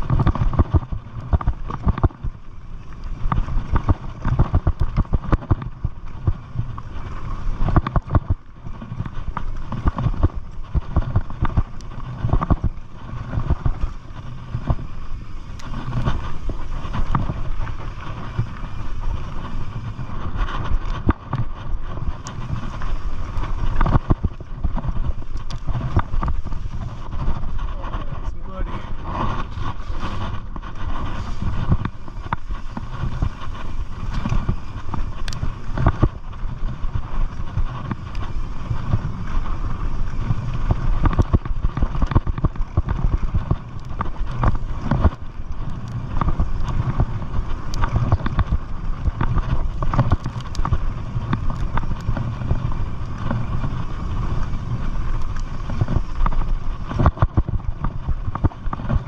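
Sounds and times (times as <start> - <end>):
bike clicks and rattles: 0.0 - 59.0
bike tyres rumbling on dirt: 0.0 - 59.0
wind noise on microphone: 0.0 - 59.0.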